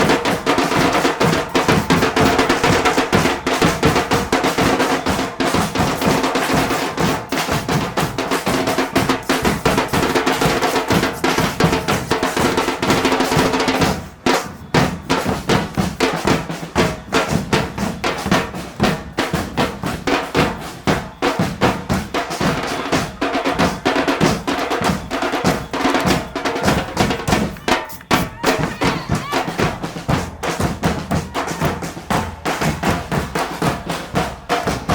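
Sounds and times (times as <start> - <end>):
percussion driving rhythm: 0.0 - 34.9.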